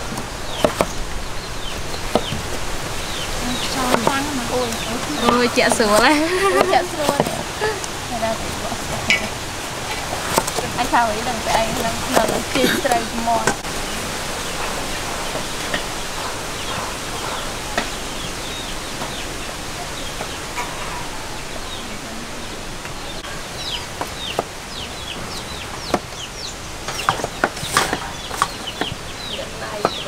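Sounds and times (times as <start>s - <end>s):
chickens chirping: 0.0s - 30.0s
steady background hiss: 0.0s - 30.0s.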